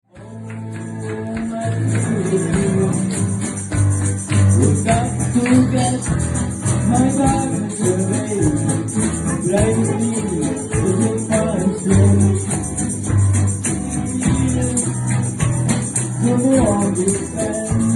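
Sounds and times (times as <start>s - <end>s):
shaker rattling: 1.0s - 17.9s.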